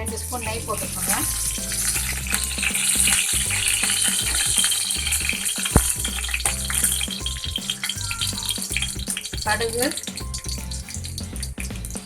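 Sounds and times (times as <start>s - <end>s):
ghee sizzling and crackling: 0.0s - 12.0s.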